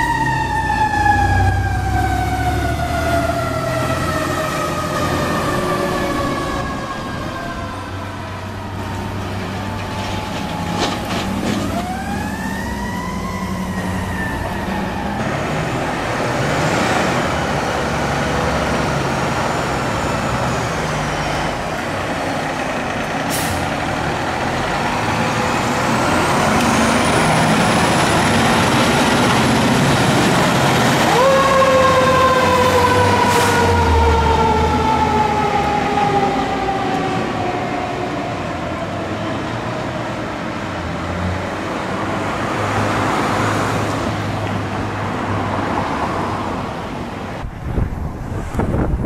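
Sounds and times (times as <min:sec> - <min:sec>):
diesel engines running: 0:00.0 - 0:49.0
fire engine sirens: 0:00.0 - 0:49.0.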